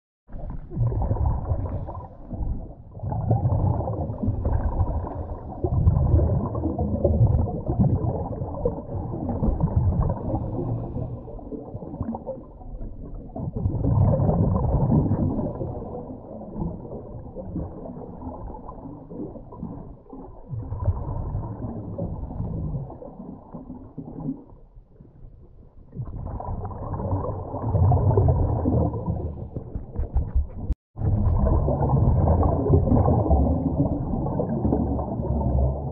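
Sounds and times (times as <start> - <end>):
air bubbles gurgling: 0.3 - 25.2, 25.8 - 35.9.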